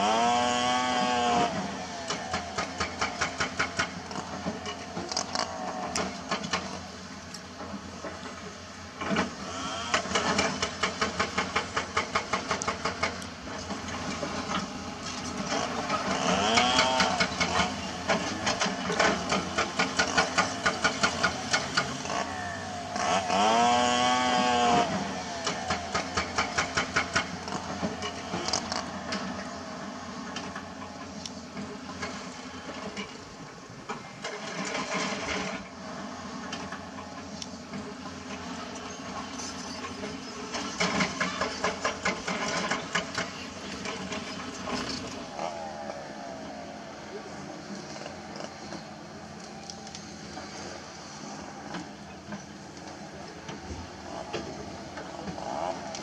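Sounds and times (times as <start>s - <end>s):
excavator diesel engines revving: 0.0s - 56.0s.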